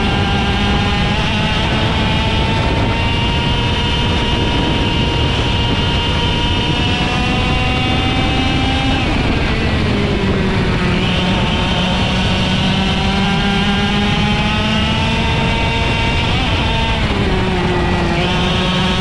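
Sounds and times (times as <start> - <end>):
kart engine revving: 0.0 - 19.0.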